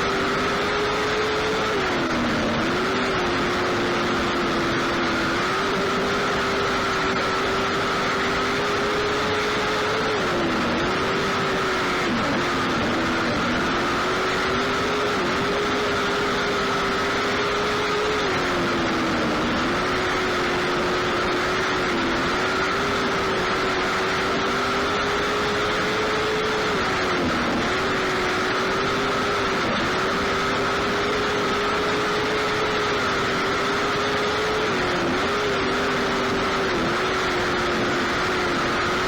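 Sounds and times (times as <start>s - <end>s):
race car engine at high revs: 0.0s - 39.0s.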